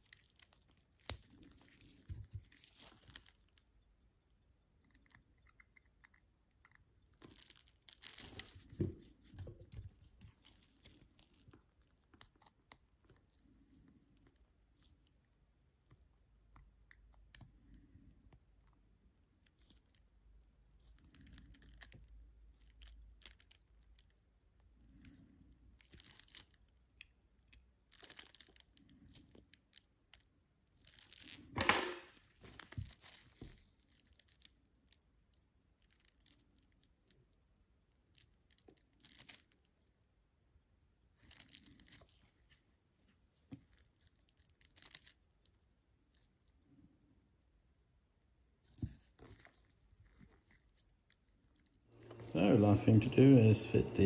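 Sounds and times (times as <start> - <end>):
soft clicks of small tools: 0.0 - 54.0.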